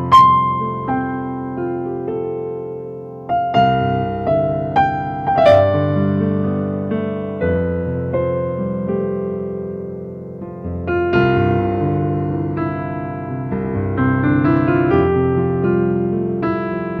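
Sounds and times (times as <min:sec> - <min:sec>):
gentle keyboard music: 0:00.0 - 0:17.0.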